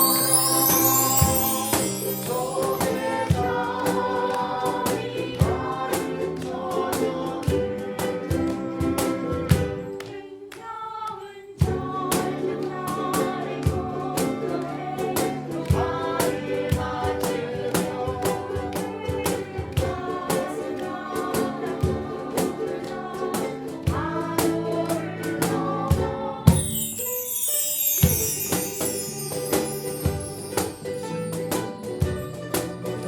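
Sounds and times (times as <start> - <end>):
ukulele ensemble strumming: 0.0 - 33.0.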